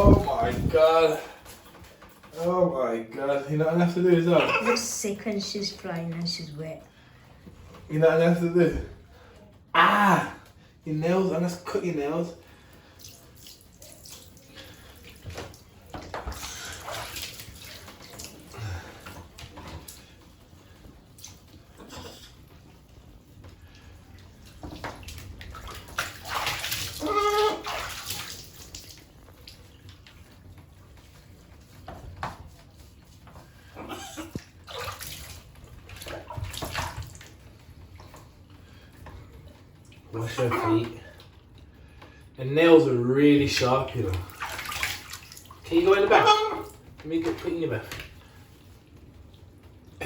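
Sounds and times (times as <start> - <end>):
water splashing in a bathtub: 0.0 - 50.0.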